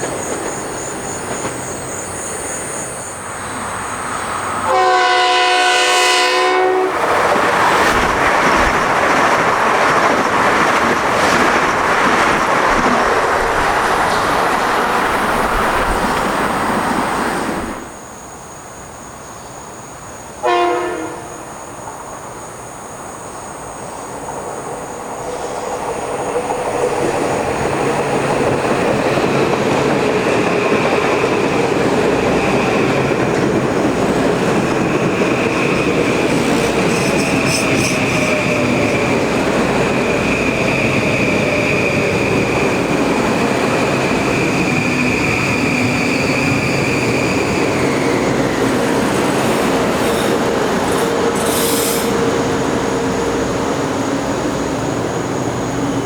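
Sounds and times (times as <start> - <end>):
train wheels rushing on rail: 0.0 - 56.0.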